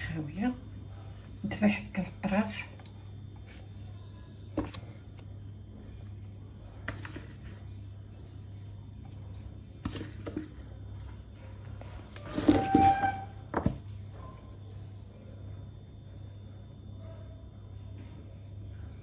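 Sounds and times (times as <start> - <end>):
steady low hum: 0.0 - 12.3, 13.2 - 19.0.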